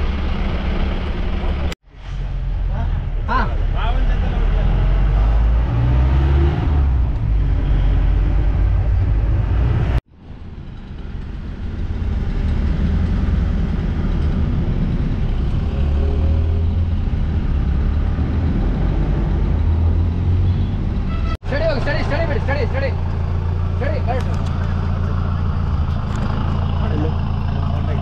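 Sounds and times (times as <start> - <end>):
road noise of vehicles: 0.0 - 28.0.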